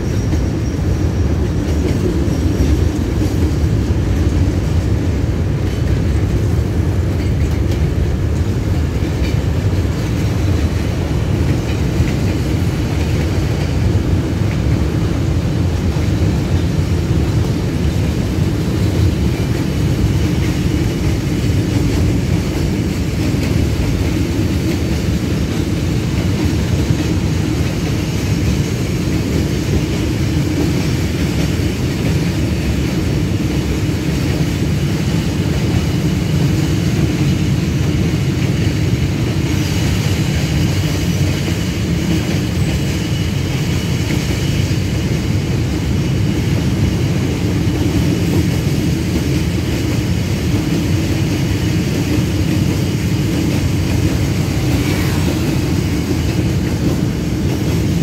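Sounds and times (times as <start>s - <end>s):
freight train rolling over rails: 0.0s - 58.0s.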